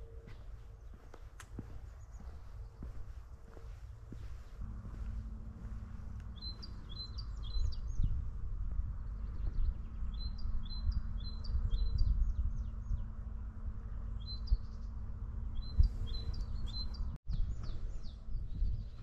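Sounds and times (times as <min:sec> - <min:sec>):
songbird chirping: 0:00.0 - 0:08.2, 0:08.9 - 0:13.2, 0:14.0 - 0:19.0
wind rumble on microphone: 0:00.0 - 0:19.0.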